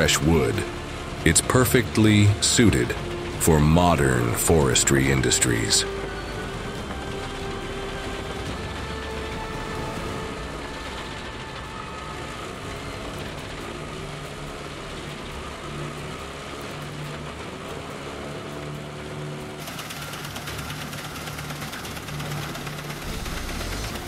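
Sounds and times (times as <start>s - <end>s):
wood chipper engine drone: 0.0s - 24.0s.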